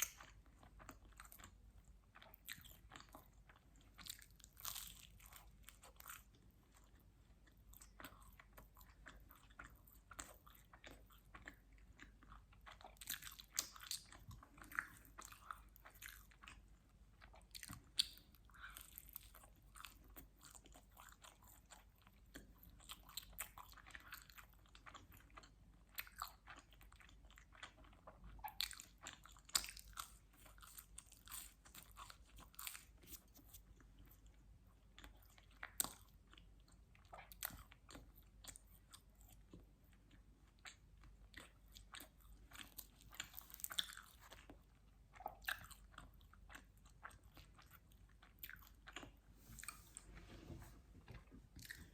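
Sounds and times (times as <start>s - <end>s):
person chewing pizza: 0.0s - 51.9s.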